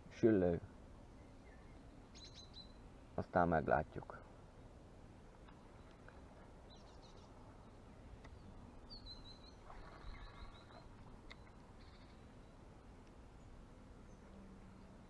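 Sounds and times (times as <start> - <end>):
faint birdsong chirps: 0.2 - 15.0.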